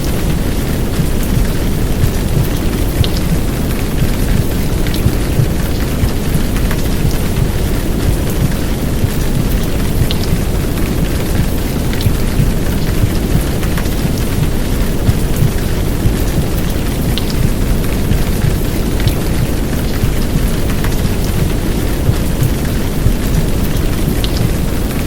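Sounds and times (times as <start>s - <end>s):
low steady womb rumble: 0.0s - 24.9s
heavy rain downpour: 0.0s - 25.0s
sharp raindrop ticks: 0.0s - 25.0s.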